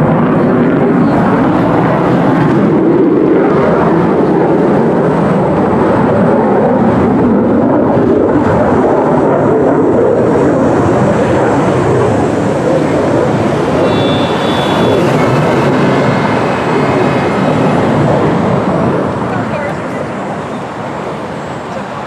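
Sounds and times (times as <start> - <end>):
jet flying overhead: 0.0 - 22.0.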